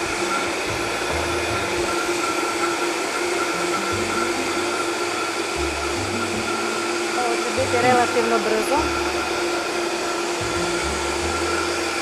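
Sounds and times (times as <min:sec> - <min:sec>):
blender motor whine: 0:00.0 - 0:12.0.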